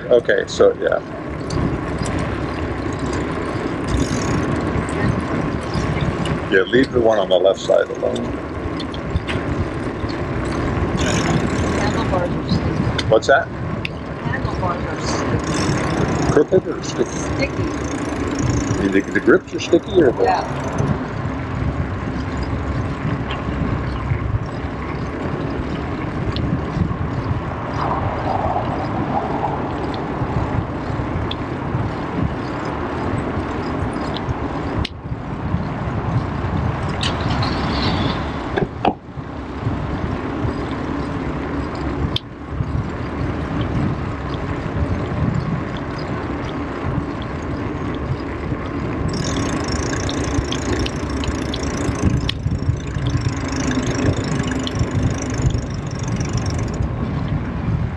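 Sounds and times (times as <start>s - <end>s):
bicycle tyre noise on road: 0.0s - 57.9s
wind buffeting the microphone: 0.0s - 57.9s.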